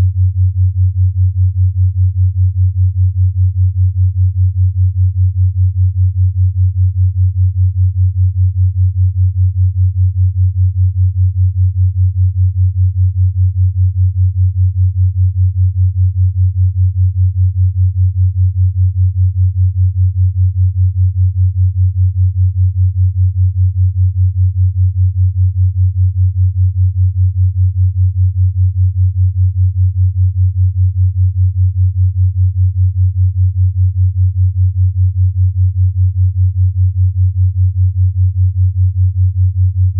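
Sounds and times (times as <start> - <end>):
pulsing low sine tone: 0.0 - 39.9.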